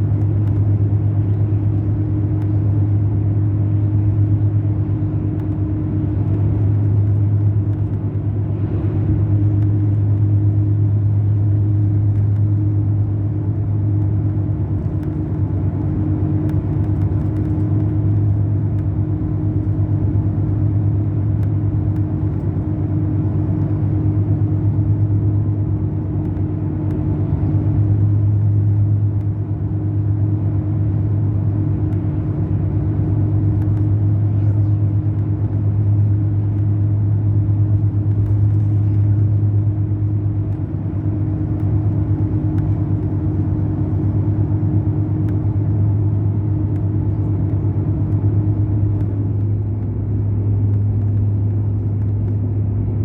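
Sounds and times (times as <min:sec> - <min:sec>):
coach diesel engine drone: 0:00.0 - 0:53.0.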